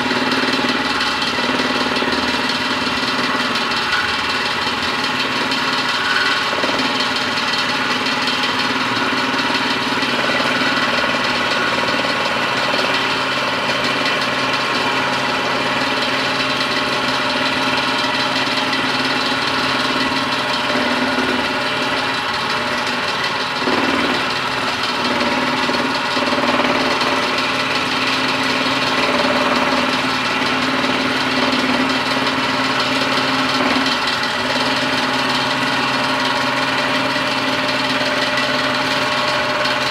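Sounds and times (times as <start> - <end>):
scroll saw running: 0.0 - 39.9.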